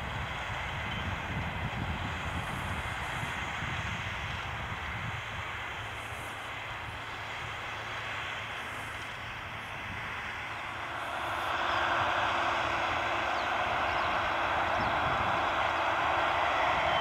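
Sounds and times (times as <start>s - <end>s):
tractor engine drone: 0.0s - 17.0s.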